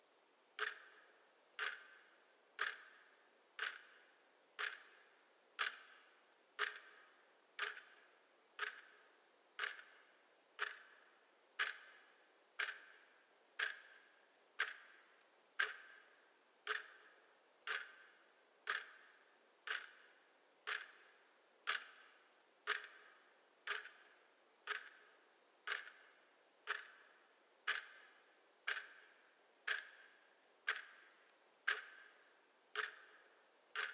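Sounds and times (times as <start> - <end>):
clock ticking: 0.6 - 33.9.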